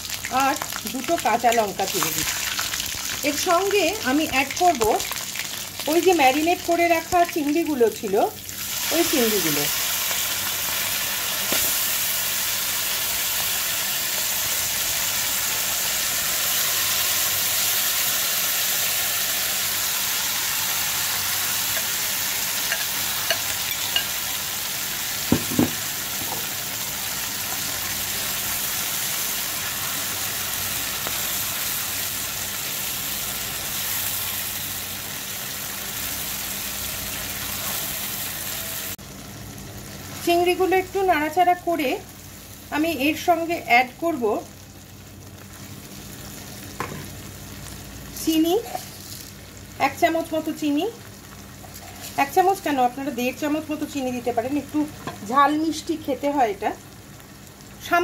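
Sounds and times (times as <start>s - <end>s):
prawns sizzling in oil: 0.0s - 58.0s.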